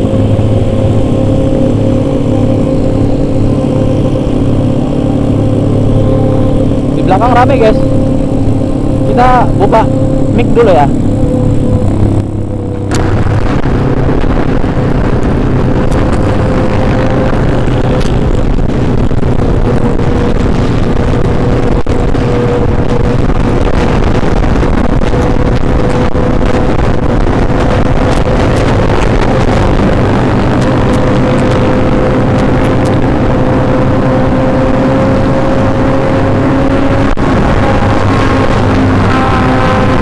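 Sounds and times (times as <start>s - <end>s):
motorcycle engines cruising: 0.0s - 40.0s
road and wind noise: 0.0s - 40.0s.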